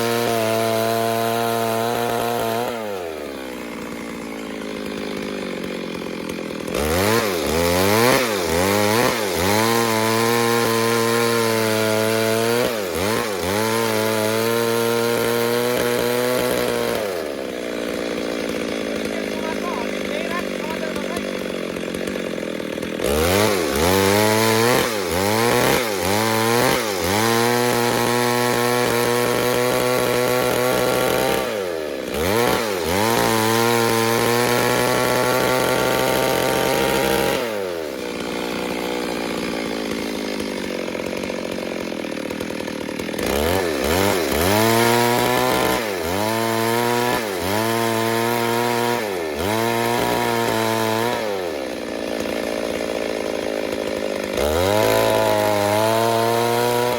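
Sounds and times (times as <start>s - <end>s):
chainsaw revving: 0.0s - 56.9s.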